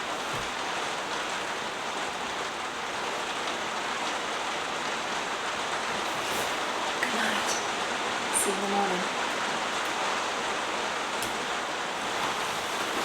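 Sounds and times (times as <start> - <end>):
heavy rain on a roof: 0.0 - 13.0.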